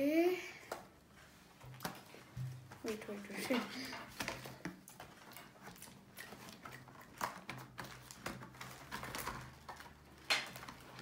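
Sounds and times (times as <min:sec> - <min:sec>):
plastic parts and paper rustling: 0:00.6 - 0:11.0.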